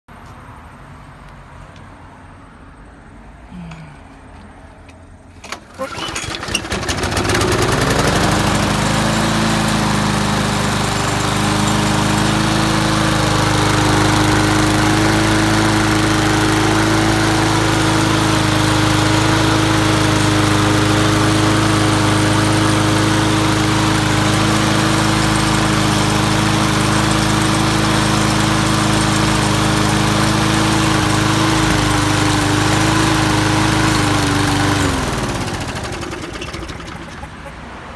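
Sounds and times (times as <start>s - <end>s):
lawn mower engine running: 5.4s - 37.9s.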